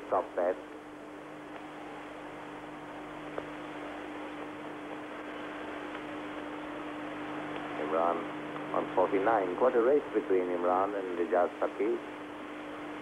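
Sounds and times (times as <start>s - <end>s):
low mains hum: 0.0s - 13.0s
tape hiss: 0.0s - 13.0s.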